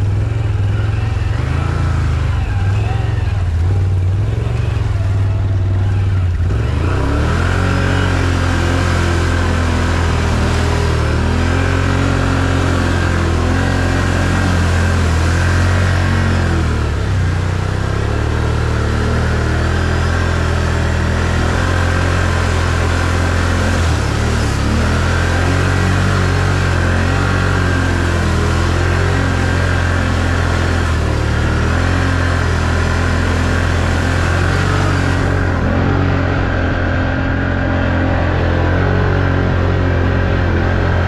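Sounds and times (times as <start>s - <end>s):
atv engine revving: 0.0s - 41.0s.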